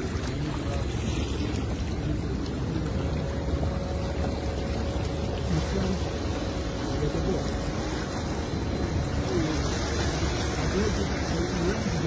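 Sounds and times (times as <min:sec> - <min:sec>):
faint voices: 0:00.0 - 0:12.0
water sloshing: 0:00.0 - 0:12.0.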